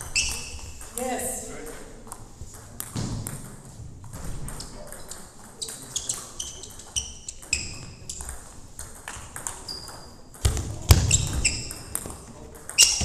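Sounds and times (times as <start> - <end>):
table tennis ball hits: 2.1 - 13.0.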